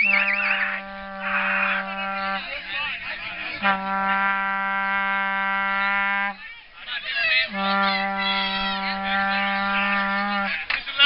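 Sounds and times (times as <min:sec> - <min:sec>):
vuvuzela horn blast: 0:00.0 - 0:03.0, 0:03.6 - 0:06.4, 0:07.4 - 0:10.8
voices: 0:00.0 - 0:11.0.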